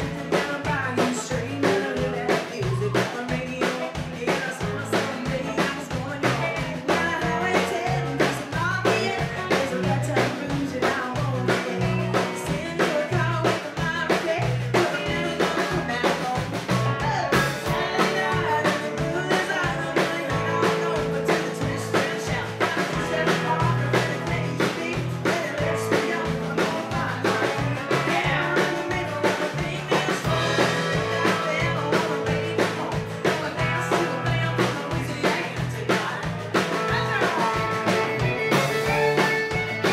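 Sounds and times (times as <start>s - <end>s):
acoustic guitar: 0.0s - 39.9s
bass guitar: 0.0s - 39.9s
drum kit beat: 0.0s - 39.9s
electric guitar: 0.0s - 39.9s
woman singing lead: 0.0s - 39.9s.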